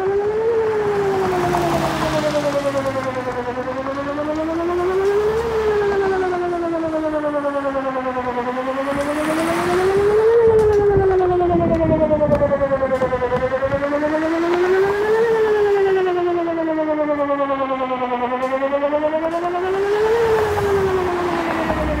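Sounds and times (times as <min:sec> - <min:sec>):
warning siren slow wail: 0:00.0 - 0:22.0.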